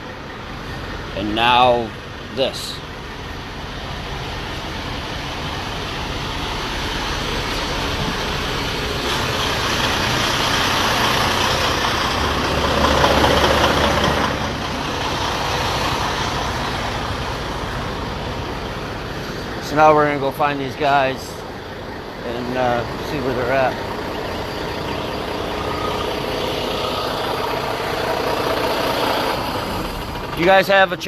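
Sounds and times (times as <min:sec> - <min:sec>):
heavy truck engine: 0:00.0 - 0:31.0
road noise: 0:00.0 - 0:31.0.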